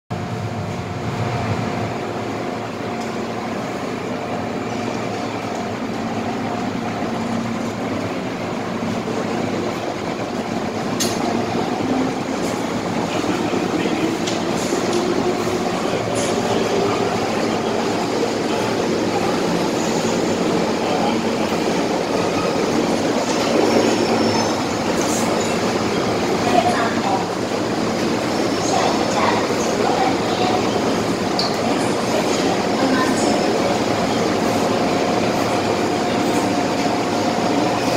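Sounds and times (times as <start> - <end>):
train wheels and motors running: 0.1 - 37.9.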